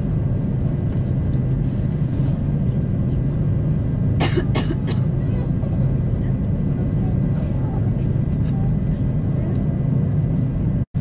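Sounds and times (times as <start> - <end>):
aircraft cabin rumble: 0.0 - 11.0
jet engines idling: 0.0 - 11.0.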